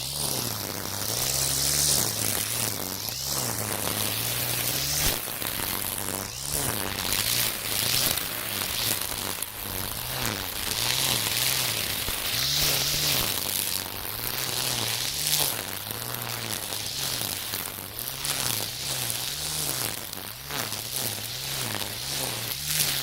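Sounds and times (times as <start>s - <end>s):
brushcutter spinning: 0.0s - 23.0s
trimmer line cutting grass: 0.0s - 23.0s.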